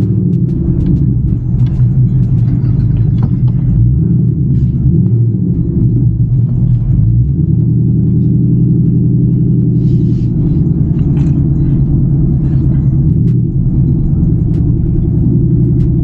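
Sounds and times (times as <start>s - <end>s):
car engine deep drone: 0.0s - 16.0s.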